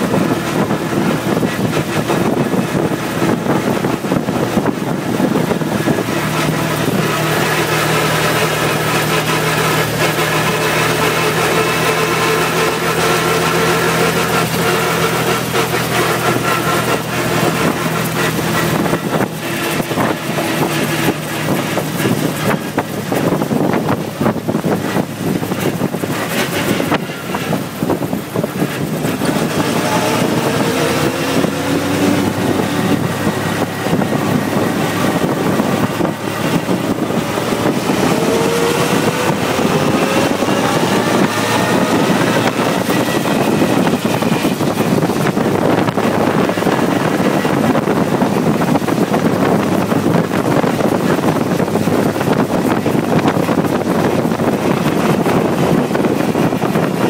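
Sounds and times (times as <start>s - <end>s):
car engine revving: 0.0s - 57.0s
wind rushing: 0.0s - 57.0s.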